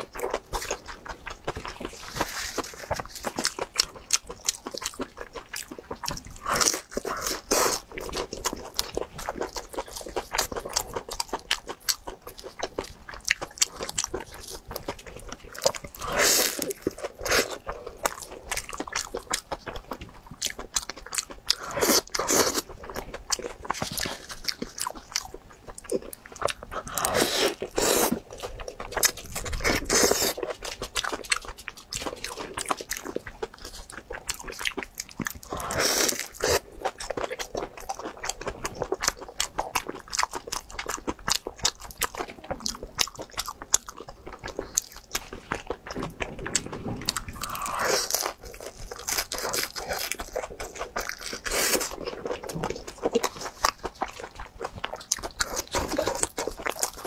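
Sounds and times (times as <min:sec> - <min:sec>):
crunchy bites of pastry: 0:00.0 - 0:57.0
wet chewing clicks: 0:00.0 - 0:57.0.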